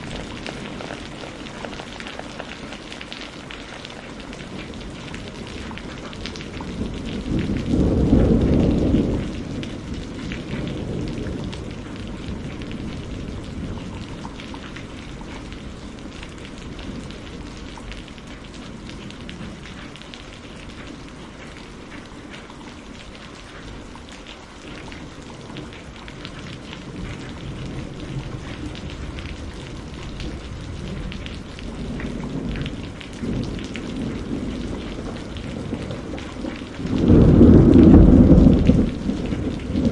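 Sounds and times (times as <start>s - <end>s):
thunder rumbling: 0.0s - 22.0s, 24.8s - 39.9s
steady rain falling: 0.0s - 39.9s.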